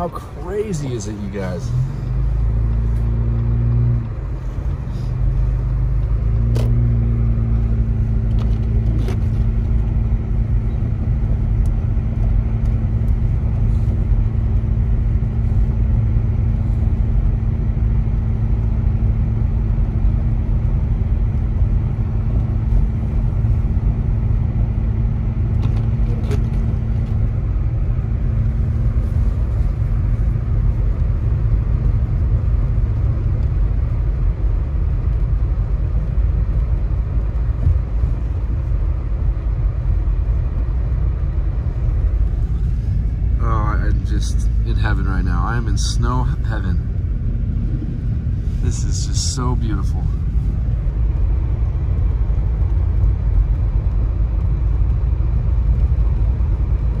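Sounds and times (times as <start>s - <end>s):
car road and engine rumble: 0.0s - 57.0s
low hum: 0.0s - 57.0s.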